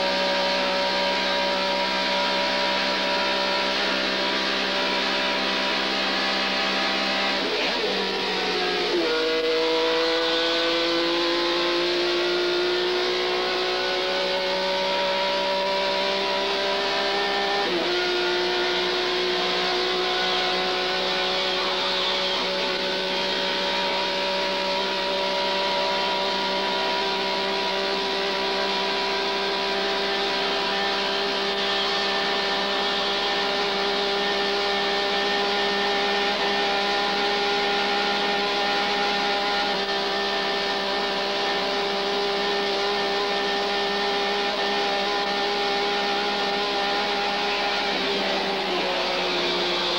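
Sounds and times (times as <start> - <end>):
car engine revving in gear: 0.0 - 49.9.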